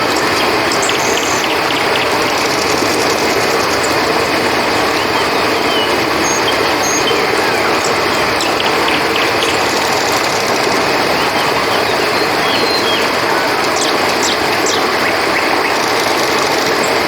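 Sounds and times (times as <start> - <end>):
crickets chirping: 0.0 - 17.0
river rushing: 0.0 - 17.0.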